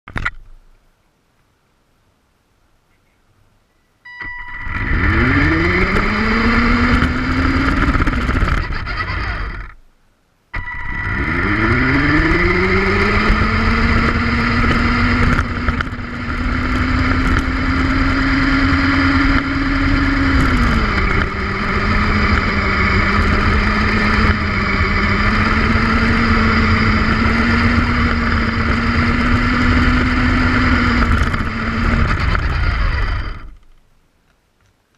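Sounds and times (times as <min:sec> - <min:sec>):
electric motors whirring: 0:04.2 - 0:09.8, 0:10.6 - 0:33.7.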